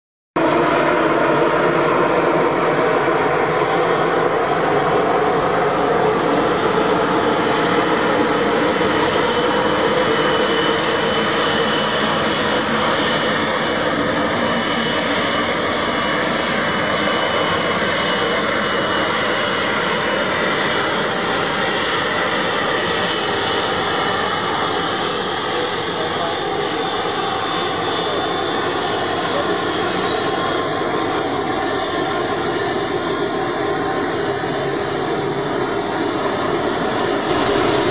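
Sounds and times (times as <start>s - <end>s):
jet engines at low power: 0.4s - 37.9s.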